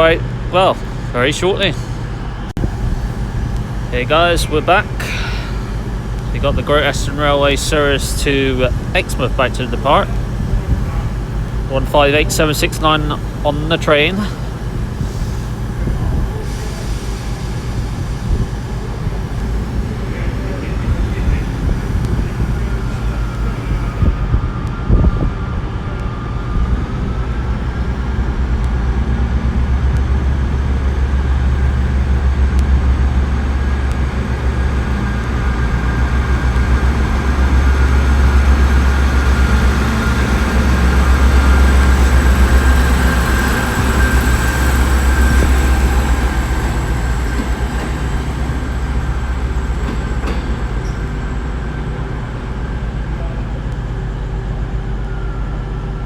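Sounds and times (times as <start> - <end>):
diesel train engine rumble: 0.0 - 56.0
steady whine: 0.0 - 56.0.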